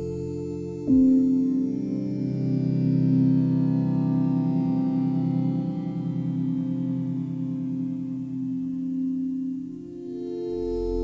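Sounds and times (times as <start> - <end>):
ambient new-age music: 0.0 - 11.0.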